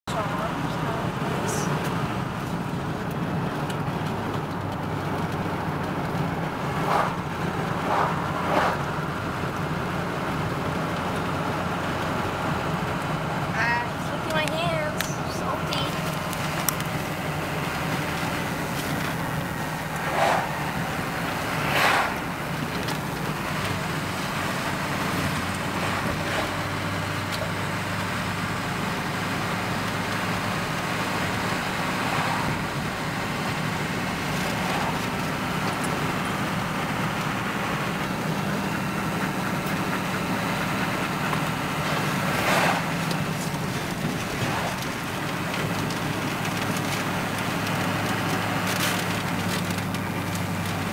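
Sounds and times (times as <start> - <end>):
road noise: 0.0 - 50.9
vehicle engine hum: 0.0 - 50.9.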